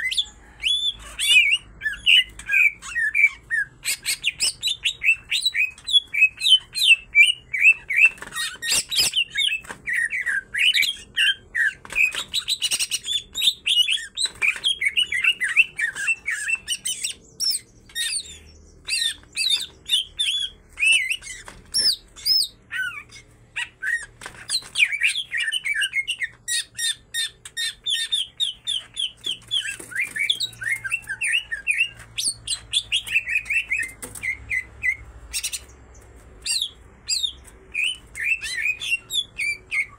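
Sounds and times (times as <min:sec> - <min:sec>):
birds singing chirps and whistles: 0:00.0 - 0:39.9.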